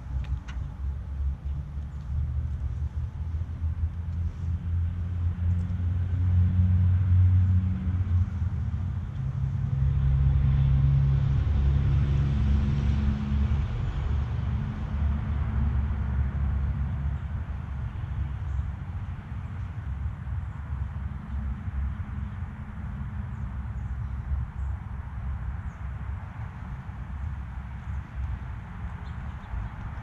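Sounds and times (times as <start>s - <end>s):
vehicle engine rumble: 0.0s - 30.0s.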